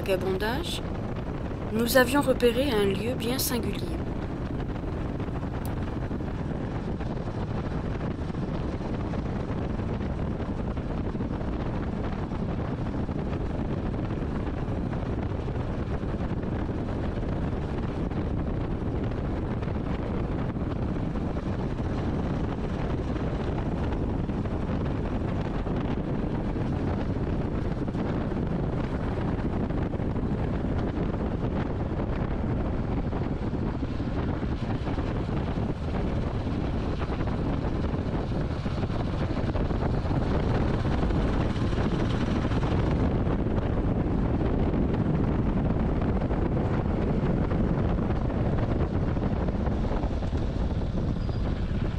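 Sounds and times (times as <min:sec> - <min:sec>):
wind noise on microphone: 0:00.0 - 0:51.9.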